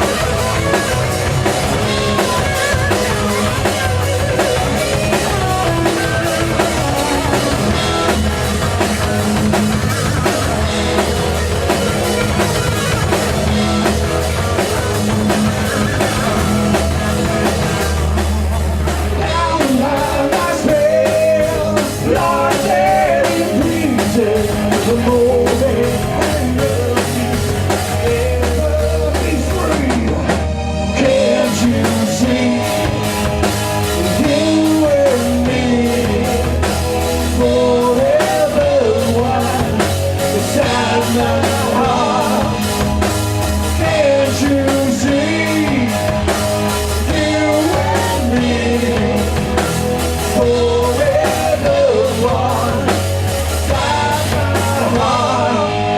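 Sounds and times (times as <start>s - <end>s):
lead guitar line bending: 0.0s - 55.9s
live rock band: 0.0s - 55.9s.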